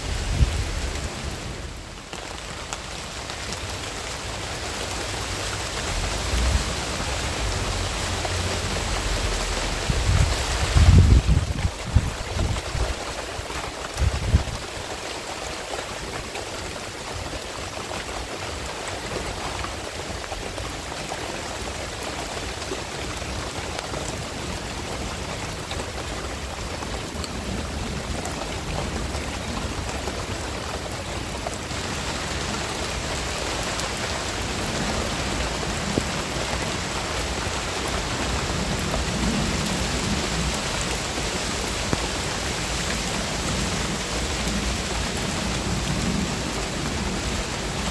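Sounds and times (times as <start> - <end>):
rain falling on foliage: 0.0 - 47.9.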